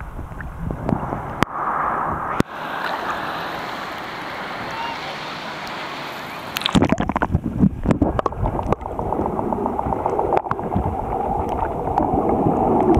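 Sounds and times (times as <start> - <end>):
underwater gurgling and bubbling: 0.0 - 4.6, 6.5 - 12.9
sea water washing: 0.0 - 12.9.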